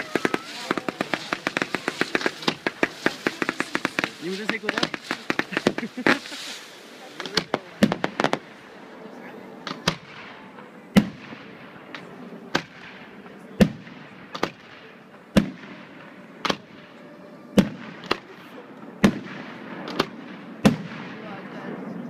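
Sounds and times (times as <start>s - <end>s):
fireworks bangs: 0.0s - 8.6s, 9.6s - 21.6s.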